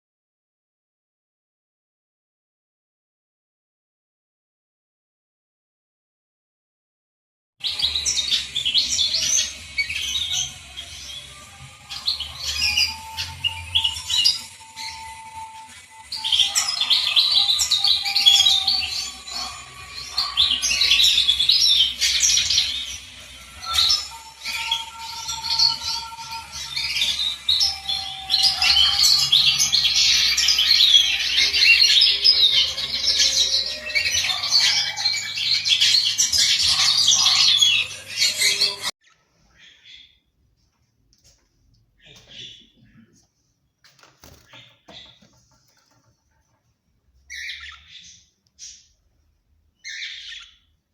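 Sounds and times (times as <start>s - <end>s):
small birds chirping: 7.6s - 40.4s, 41.2s - 50.9s.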